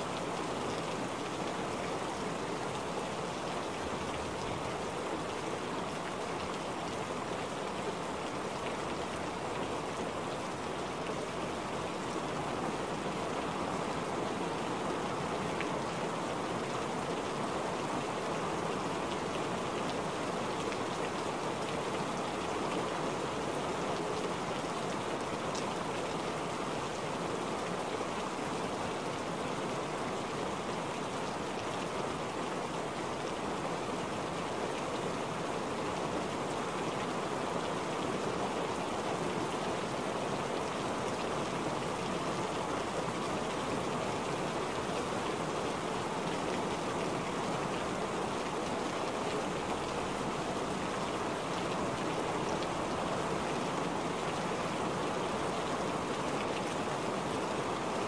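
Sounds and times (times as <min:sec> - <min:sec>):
steady rain on wet ground: 0:00.0 - 0:58.0.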